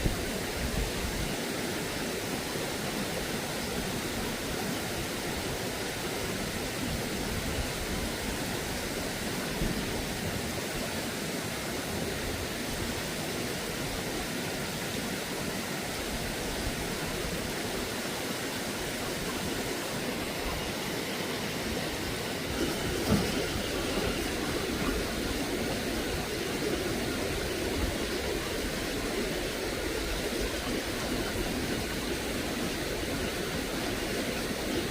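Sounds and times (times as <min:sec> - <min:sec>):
stream rushing: 0:00.0 - 0:34.9.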